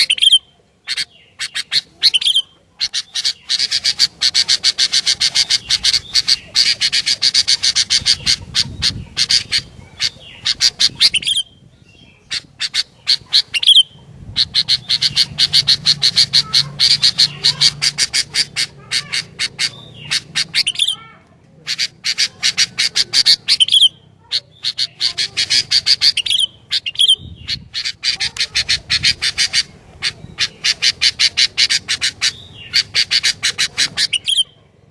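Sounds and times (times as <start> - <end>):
bird chattering calls: 0.0 - 34.7.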